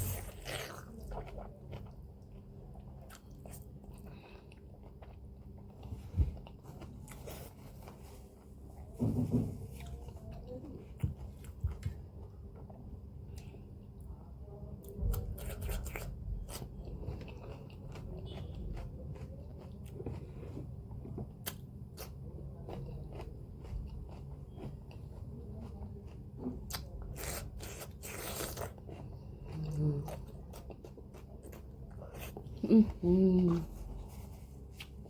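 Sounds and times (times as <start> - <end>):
person chewing noodles: 0.0 - 8.6, 15.4 - 35.0.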